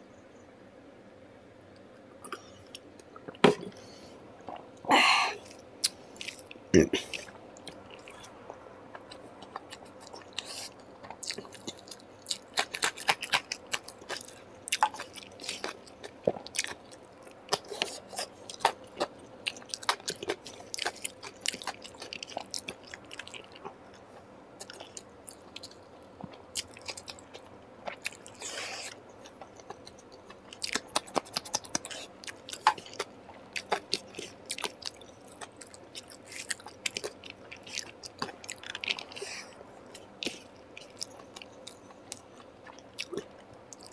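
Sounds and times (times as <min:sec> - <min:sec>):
chewing and mouth smacking: 0:05.4 - 0:43.9.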